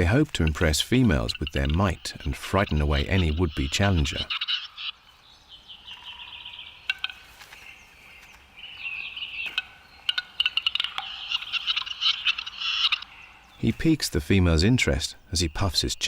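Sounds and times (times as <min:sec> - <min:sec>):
capercaillie clicking display calls: 0:00.0 - 0:05.0, 0:06.0 - 0:16.0.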